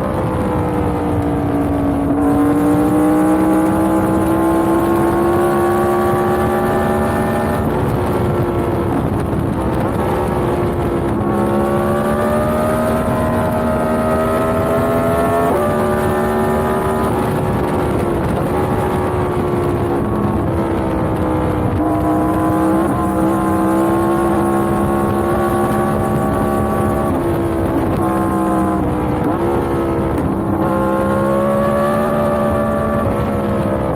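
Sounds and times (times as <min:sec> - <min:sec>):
motorcycle engine shifting gears: 0:00.0 - 0:33.9.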